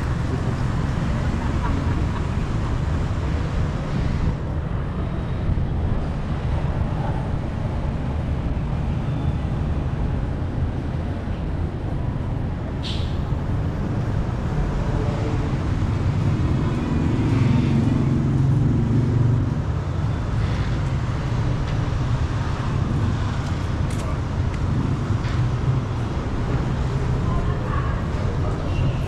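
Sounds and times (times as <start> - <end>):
low rumble of road traffic: 0.0 - 29.0.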